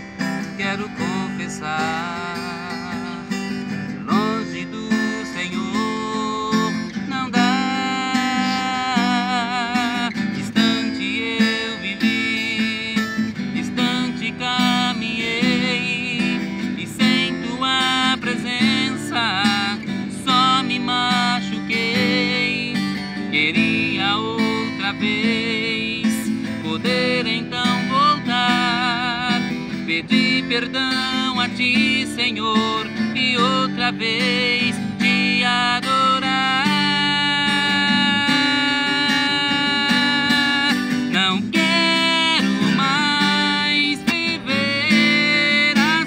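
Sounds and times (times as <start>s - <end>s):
strummed acoustic guitar: 0.0s - 46.0s.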